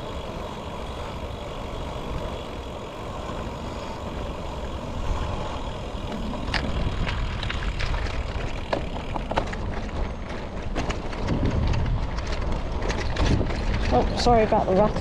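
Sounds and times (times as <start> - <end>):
bike rattling: 0.0 - 15.0
tyre and wind rumble: 0.0 - 15.0.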